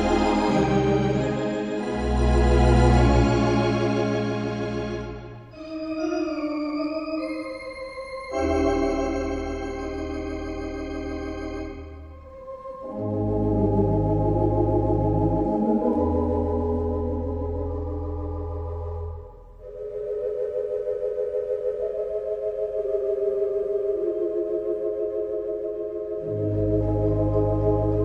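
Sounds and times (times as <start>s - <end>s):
organ playing slow chords: 0.0s - 28.0s.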